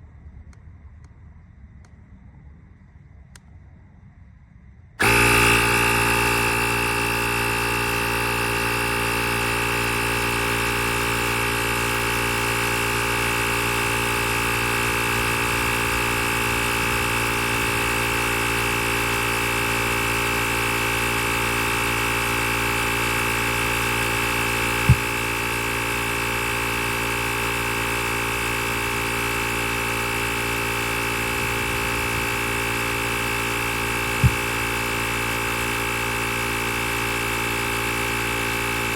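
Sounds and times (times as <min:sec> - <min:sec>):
air compressor buzzing whine: 0:05.0 - 0:38.9.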